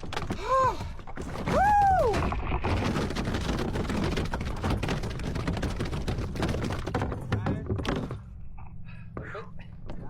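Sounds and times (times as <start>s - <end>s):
rough rumbling with crackles: 0.0s - 10.0s.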